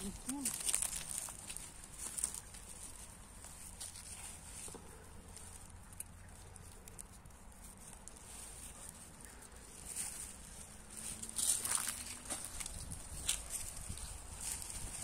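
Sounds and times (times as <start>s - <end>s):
leaves rustling and crackling: 0.0s - 15.0s.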